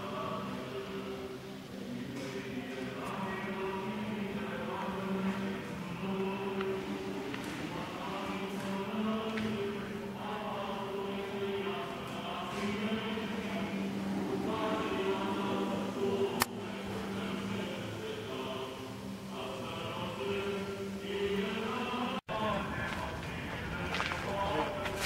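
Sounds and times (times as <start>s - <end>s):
choir singing a chant: 0.0s - 25.0s.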